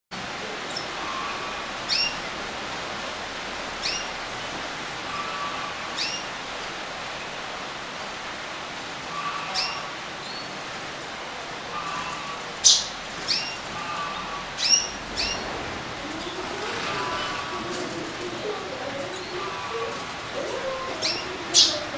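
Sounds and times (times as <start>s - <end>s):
canaries chirping: 0.4s - 6.4s, 9.0s - 21.9s.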